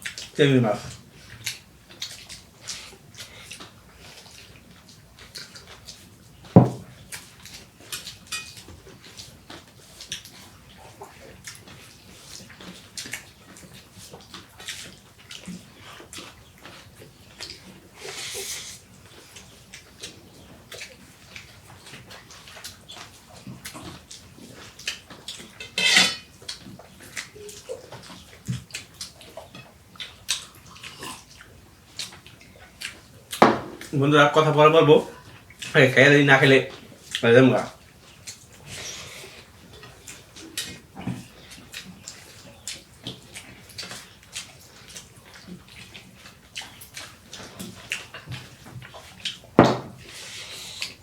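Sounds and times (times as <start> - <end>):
wet chewing and lip-smacking: 0.0 - 34.0, 36.7 - 51.0.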